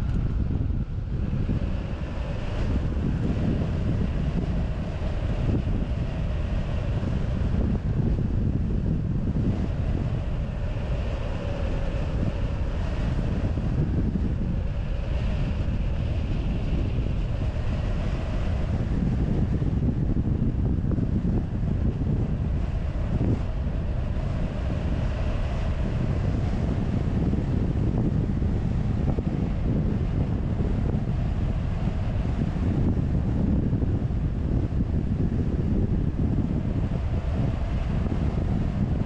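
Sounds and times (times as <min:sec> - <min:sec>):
faint wavering hum: 0:00.0 - 0:39.0
wind rumble on microphone: 0:00.0 - 0:39.0.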